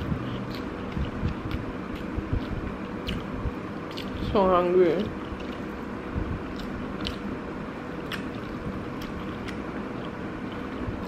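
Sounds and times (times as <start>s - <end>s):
chewing rice: 0.0s - 4.3s, 5.2s - 11.0s
faint hum: 0.0s - 11.0s.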